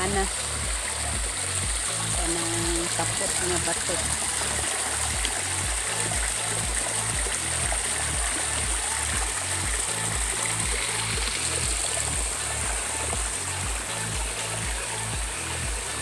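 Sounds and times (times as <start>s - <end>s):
background music with bass beat: 0.0s - 16.0s
creek water running over rocks: 0.0s - 16.0s.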